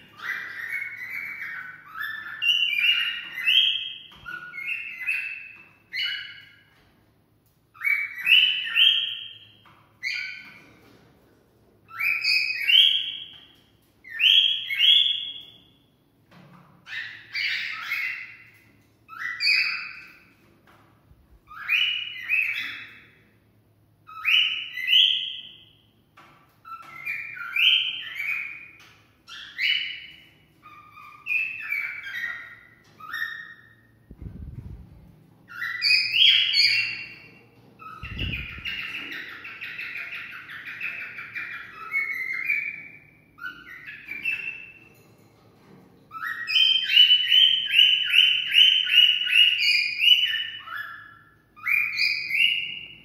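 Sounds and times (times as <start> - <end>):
cockatiel whistling and singing: 0.0 - 6.8, 7.7 - 10.8, 11.8 - 15.8, 16.8 - 20.4, 21.4 - 23.2, 24.0 - 25.9, 26.6 - 34.8, 35.4 - 44.9, 46.1 - 53.0.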